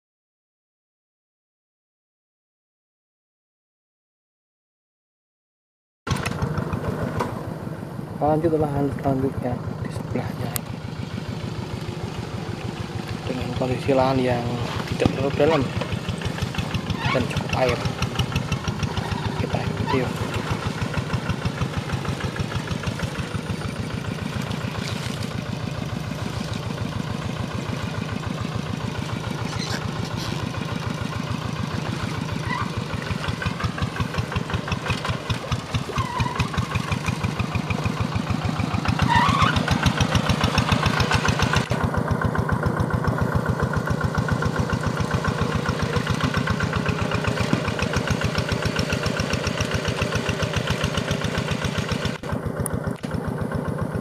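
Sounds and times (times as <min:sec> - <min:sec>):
diesel engine chugging: 0:06.1 - 0:54.0.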